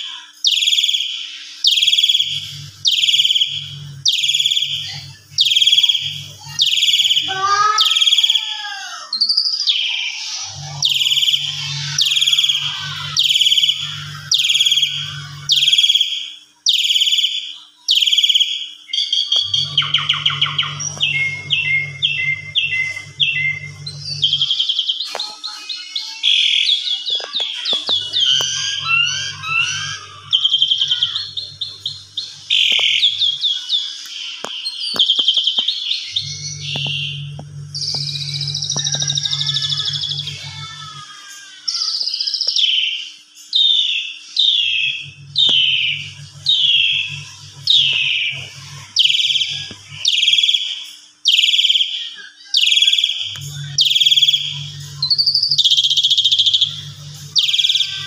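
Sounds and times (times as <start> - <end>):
starling chattering and whistling: 0.0 - 41.1, 41.7 - 58.0.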